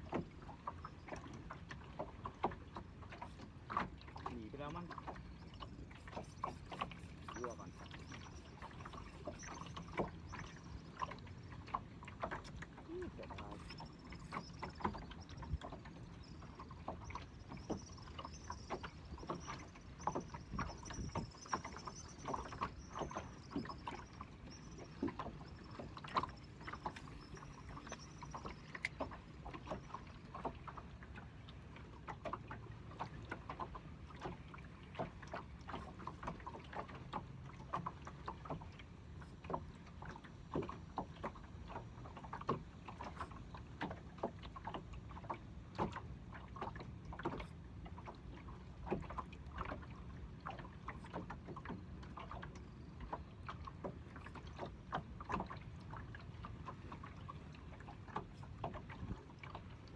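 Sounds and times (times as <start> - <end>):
water slapping against boat hull: 0.0 - 59.9.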